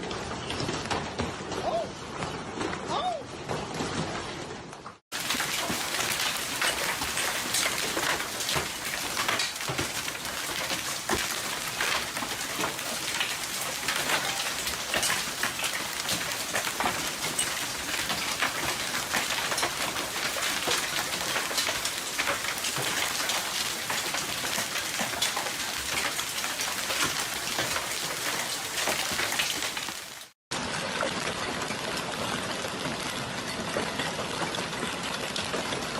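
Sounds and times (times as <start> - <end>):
hail and rain pelting down: 5.1 - 35.9.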